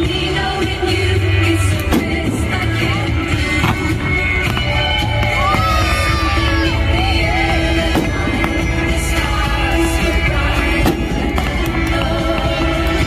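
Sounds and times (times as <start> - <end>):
music with singing: 0.0 - 13.0.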